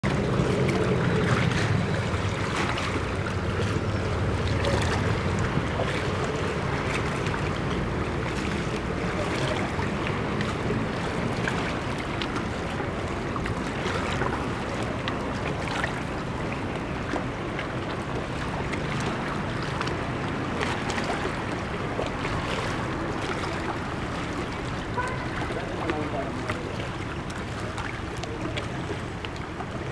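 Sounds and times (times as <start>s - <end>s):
light splashes: 0.0s - 29.9s
small waves lapping against stone: 0.0s - 29.9s.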